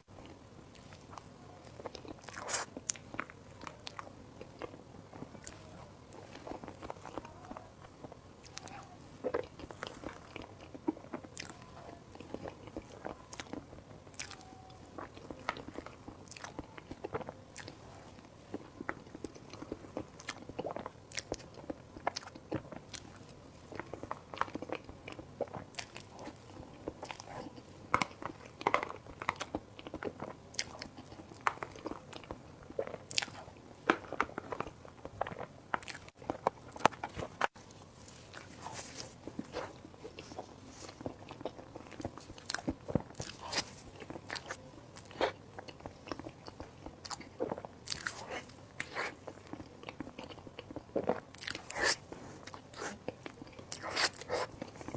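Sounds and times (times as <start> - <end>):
biting and chewing food: 0.1 - 54.9.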